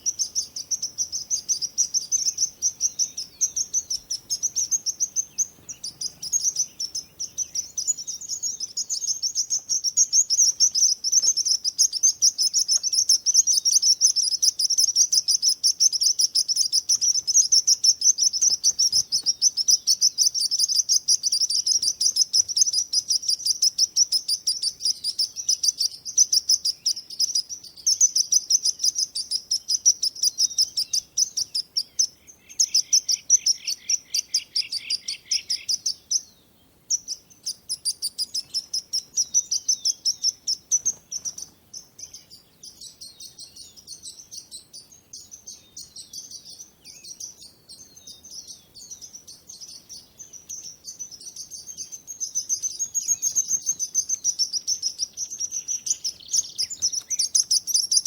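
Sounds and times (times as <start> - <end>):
low bird trill: 0.0 - 58.0
songbirds chirping: 0.0 - 58.0.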